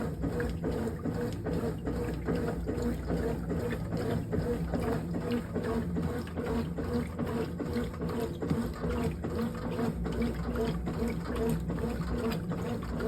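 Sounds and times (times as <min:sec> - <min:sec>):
washing machine motor humming: 0:00.0 - 0:13.0
water sloshing: 0:00.0 - 0:13.0.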